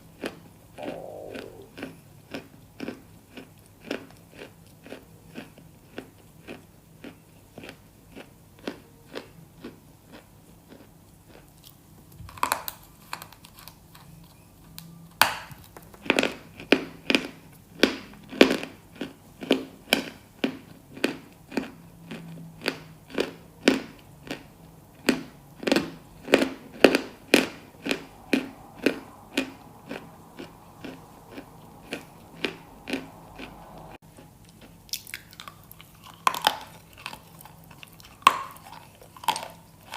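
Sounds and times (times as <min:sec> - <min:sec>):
crunchy chewing: 0:00.0 - 0:14.9, 0:16.0 - 0:39.9.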